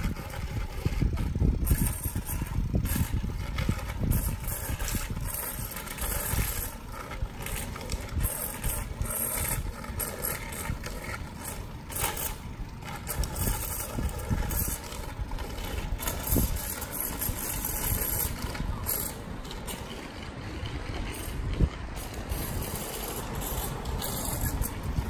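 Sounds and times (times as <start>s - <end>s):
bicycle tyres rolling on pavement: 0.0s - 25.0s
wind rushing past microphone: 0.0s - 25.0s.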